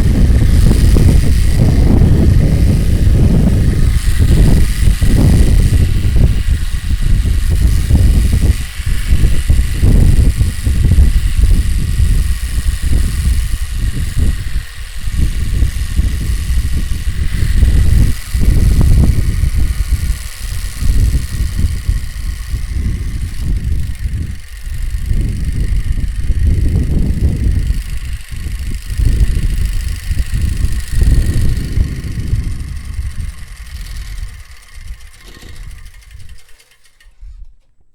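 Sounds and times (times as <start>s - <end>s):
card flapping against spokes: 0.0s - 37.9s.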